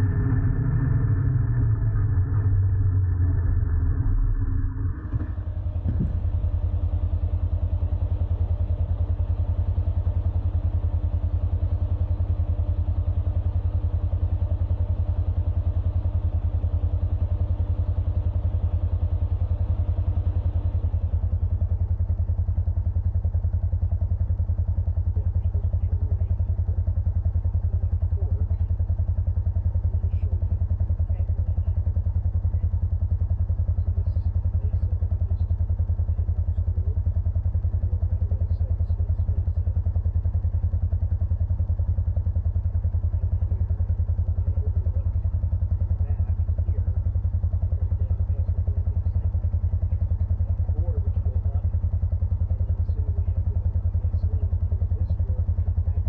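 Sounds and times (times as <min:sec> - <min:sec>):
higher steady hum: 0:00.0 - 0:56.0
vehicle engine idling: 0:00.0 - 0:56.0.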